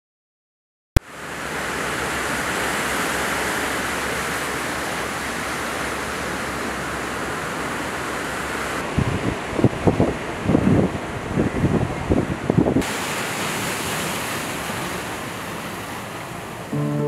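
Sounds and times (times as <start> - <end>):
sea surf on rocky shore: 1.1 - 17.0.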